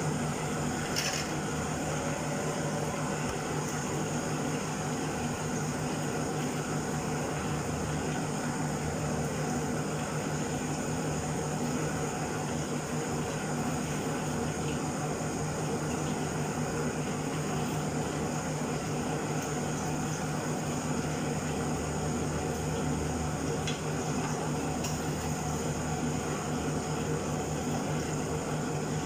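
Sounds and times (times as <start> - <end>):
chicken frying in hot oil: 3.3 - 29.0.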